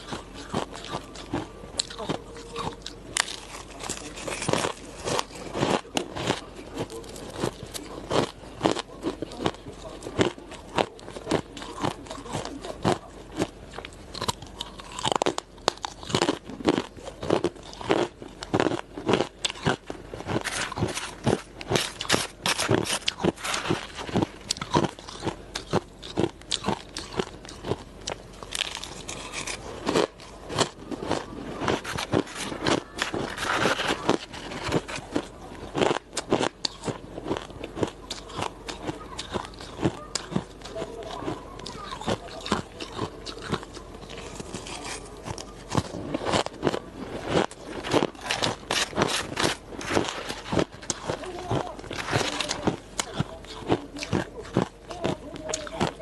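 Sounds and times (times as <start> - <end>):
chewing hard ice crunches: 0.0 - 56.0.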